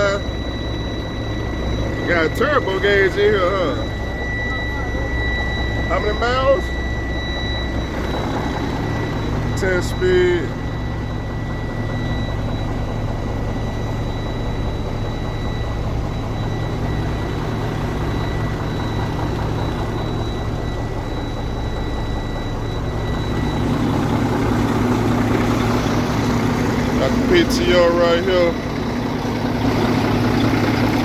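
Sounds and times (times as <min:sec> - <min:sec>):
faint high-pitched tone: 0:00.0 - 0:29.1
diesel truck engine idling: 0:00.0 - 0:31.0.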